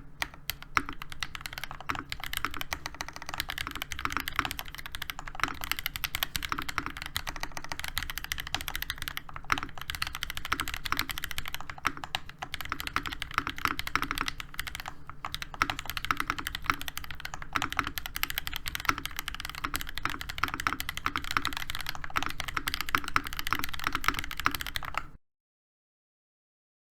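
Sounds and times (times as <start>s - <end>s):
fast typing on mechanical keyboard: 0.0s - 25.2s.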